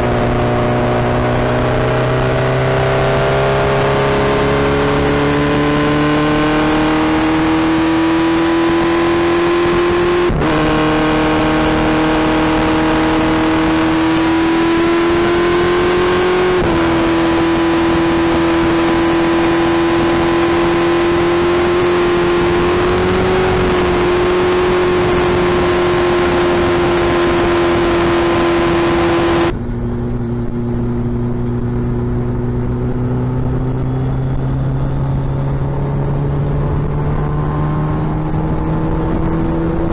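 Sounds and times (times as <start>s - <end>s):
motorcycle engine revving loud: 0.0s - 39.9s.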